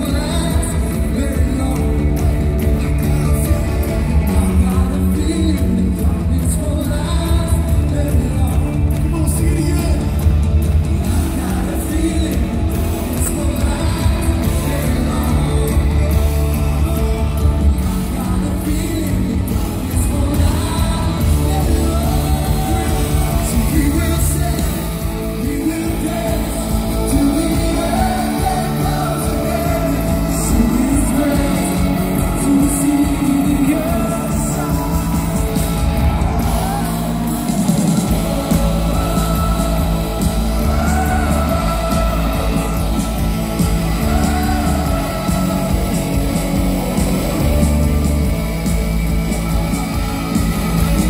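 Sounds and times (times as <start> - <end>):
heavy bass: 0.0 - 51.0
lead singer singing: 0.0 - 51.0
worship band playing: 0.0 - 51.0.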